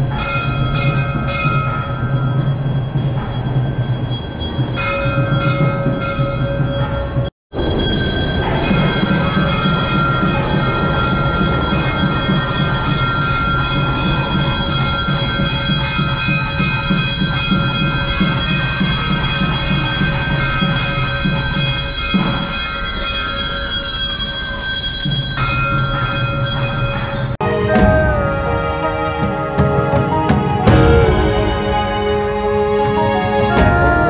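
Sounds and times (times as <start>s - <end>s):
temple bells ringing: 0.0s - 34.0s.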